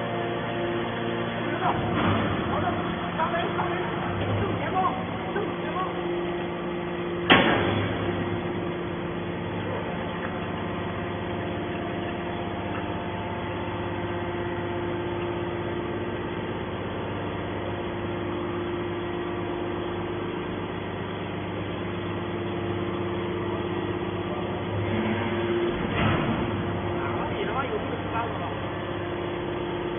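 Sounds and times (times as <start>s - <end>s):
hydraulic power unit humming: 0.0s - 29.9s.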